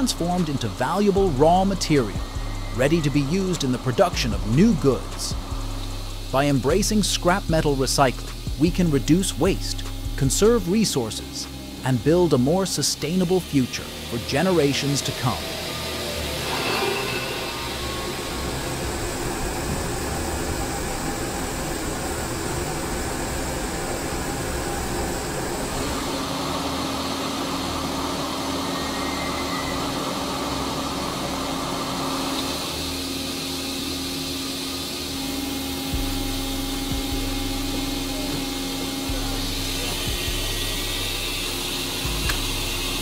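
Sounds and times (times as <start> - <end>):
low steady drone: 0.0 - 43.0
rolling mill machinery hum: 0.0 - 43.0.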